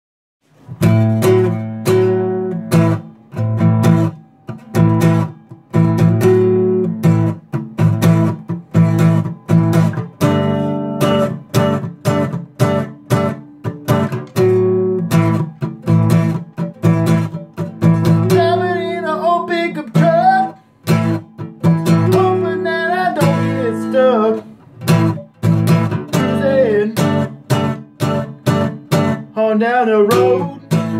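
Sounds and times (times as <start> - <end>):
acoustic guitar picked riff: 0.4 - 30.9.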